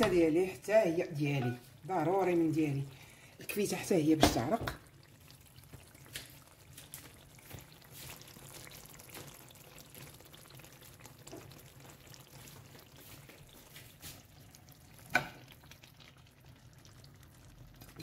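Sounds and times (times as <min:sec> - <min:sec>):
sauce simmering with bubbling pops: 0:00.0 - 0:18.0.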